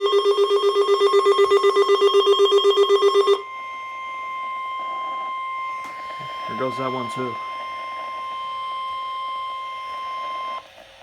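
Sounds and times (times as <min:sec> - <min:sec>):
alarm beeping rapidly: 0:00.0 - 0:10.6
steady warning alarm tone: 0:00.0 - 0:10.6.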